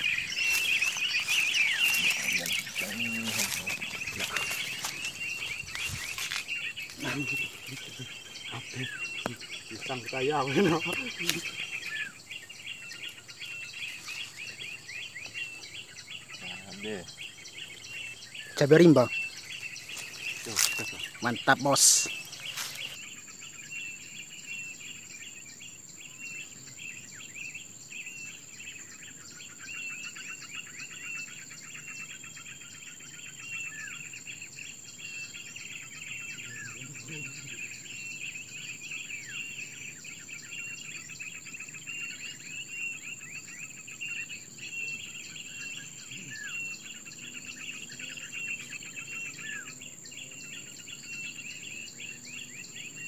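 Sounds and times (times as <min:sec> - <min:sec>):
high-pitched insect drone: 0:00.0 - 0:53.0
small birds chirping: 0:00.0 - 0:53.0.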